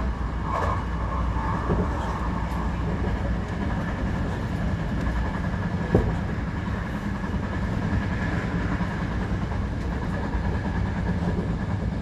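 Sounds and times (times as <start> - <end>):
oncoming train passing: 0.0 - 12.0
train running low rumble: 0.0 - 12.0.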